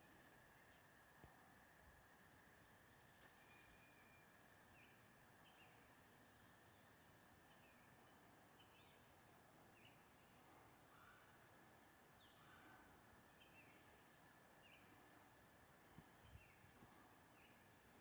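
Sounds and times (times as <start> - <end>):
songbird chirps: 0.0 - 1.4, 2.0 - 18.0
low background hiss: 0.0 - 18.0
songbird trill: 2.1 - 18.0.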